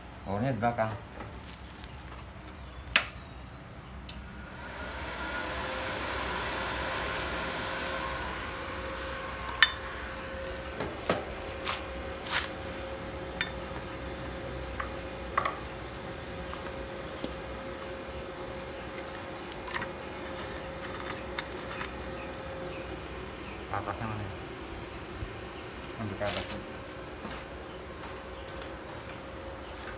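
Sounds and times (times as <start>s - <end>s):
welder cooling fan hum: 0.0s - 29.9s.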